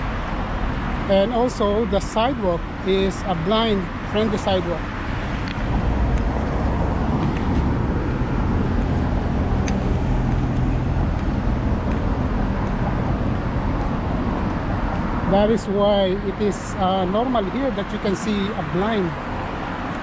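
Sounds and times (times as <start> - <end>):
engine hum: 0.0 - 20.0
road traffic rumble: 0.0 - 20.0.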